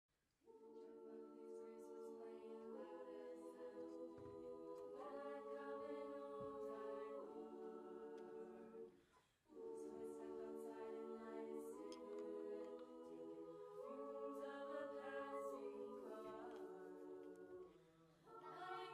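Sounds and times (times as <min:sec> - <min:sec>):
women singing in close harmony: 0:00.5 - 0:18.9.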